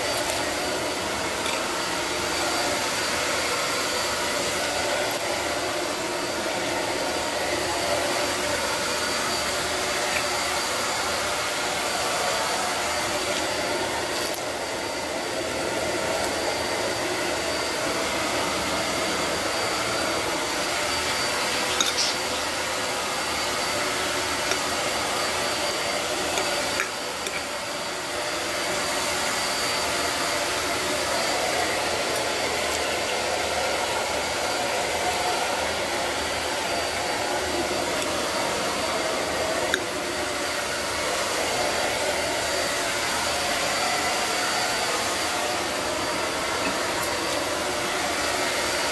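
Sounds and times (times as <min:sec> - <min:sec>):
fan heater whirring: 0:00.0 - 0:48.9.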